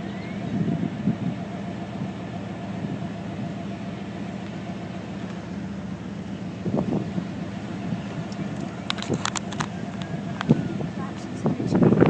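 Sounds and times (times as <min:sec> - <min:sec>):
low rumble with hum: 0:00.0 - 0:12.0.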